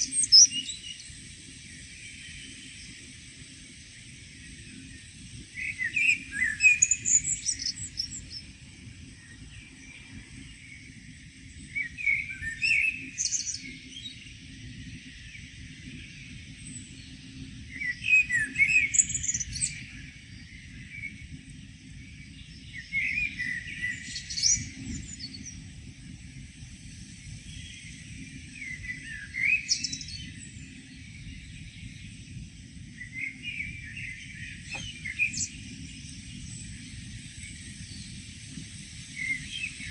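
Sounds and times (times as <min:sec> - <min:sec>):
songbird chirps and trills: 0:00.0 - 0:03.0, 0:04.3 - 0:39.9.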